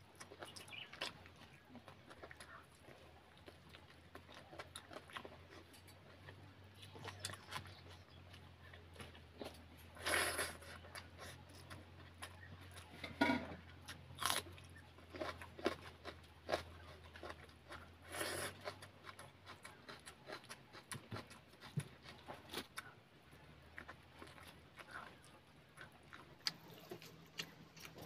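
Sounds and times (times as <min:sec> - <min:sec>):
wet chewing and lip-smacking: 0:00.0 - 0:13.0, 0:13.8 - 0:28.0
low steady hum: 0:00.0 - 0:28.0.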